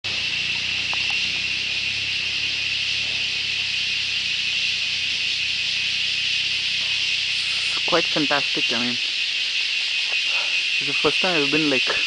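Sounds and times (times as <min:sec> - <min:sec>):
forest insects chorus: 0:00.0 - 0:12.0.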